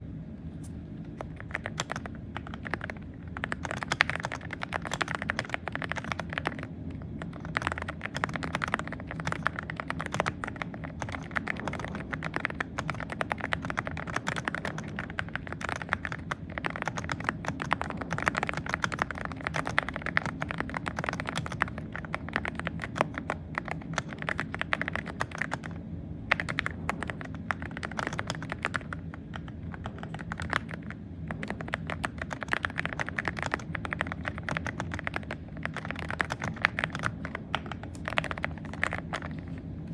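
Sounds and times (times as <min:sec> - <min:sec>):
mechanical keyboard keystroke clacks: 0:01.2 - 0:39.4.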